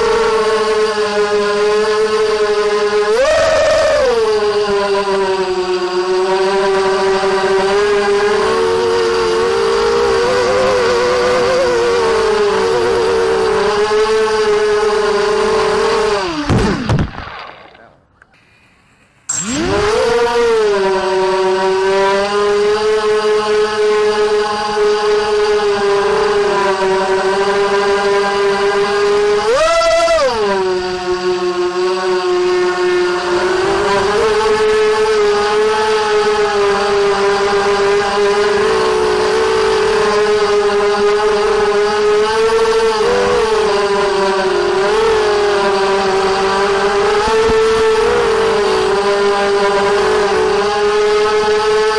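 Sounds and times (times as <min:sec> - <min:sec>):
quadcopter motors whining: 0:00.0 - 0:51.9.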